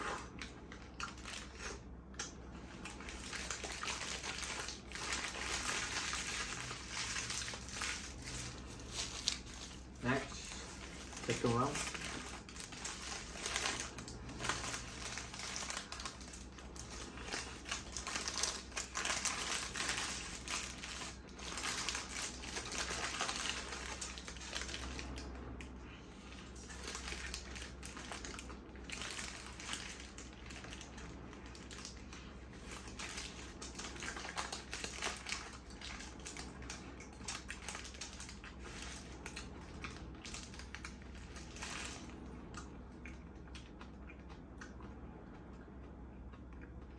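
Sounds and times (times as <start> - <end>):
crunching and wet chewing: 0.0 - 46.9
wrapper crinkling: 0.8 - 1.7, 2.8 - 25.2, 26.5 - 42.2.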